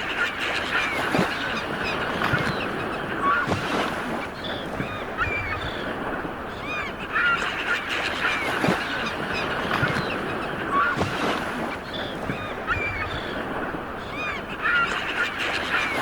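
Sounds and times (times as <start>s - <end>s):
birds calling: 0.0s - 16.0s
sea waves washing ashore: 0.0s - 16.0s.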